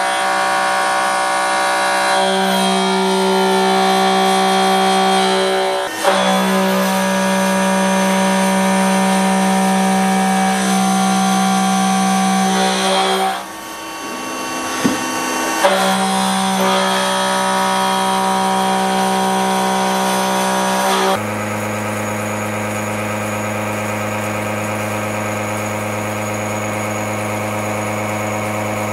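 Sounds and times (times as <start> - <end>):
milling cutter whine: 0.0 - 28.9.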